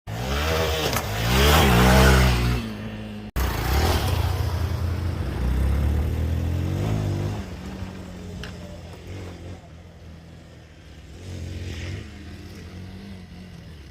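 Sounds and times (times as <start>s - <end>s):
motorcycle engine revving: 0.1s - 13.9s.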